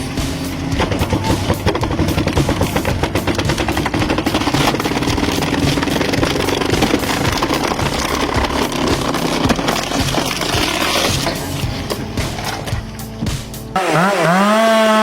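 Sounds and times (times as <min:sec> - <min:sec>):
log splitter engine running: 0:00.0 - 0:15.0.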